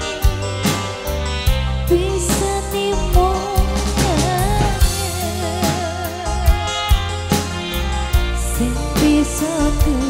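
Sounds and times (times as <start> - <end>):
band music: 0.0 - 10.0
drum beats: 0.0 - 10.0
woman singing: 1.8 - 10.0.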